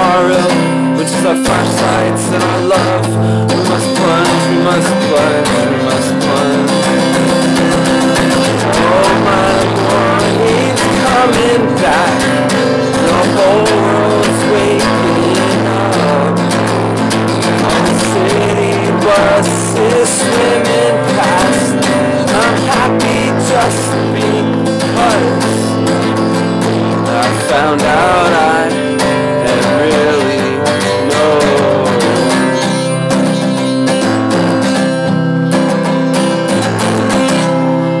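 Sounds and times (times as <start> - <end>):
man singing: 0.0 - 33.8
acoustic guitar strumming: 0.0 - 38.0.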